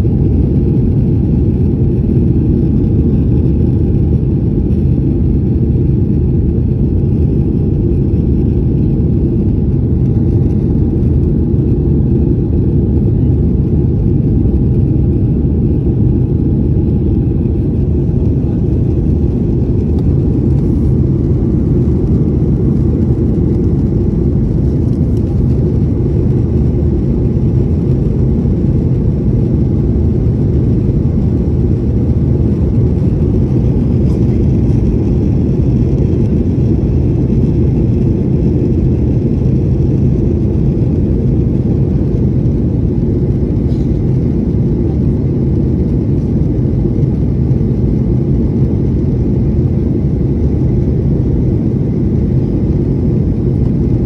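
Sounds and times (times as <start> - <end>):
jet engine noise in cabin: 0.0 - 54.0.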